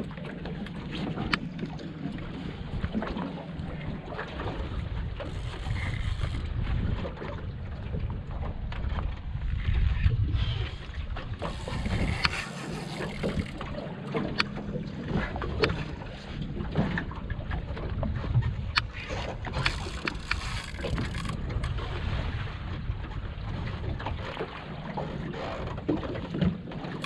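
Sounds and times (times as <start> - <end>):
wind buffeting microphone: 0.0 - 26.5.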